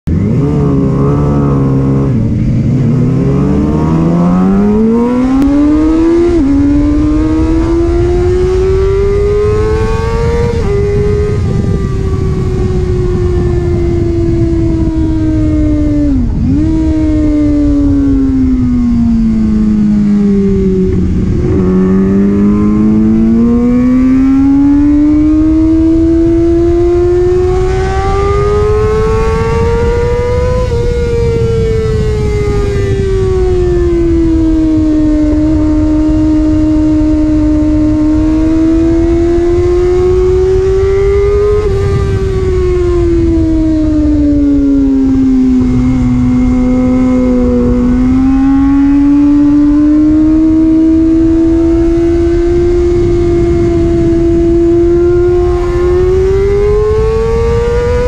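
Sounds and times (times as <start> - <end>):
motorcycle engine revving: 0.0 - 58.0
wind rushing: 0.1 - 58.0.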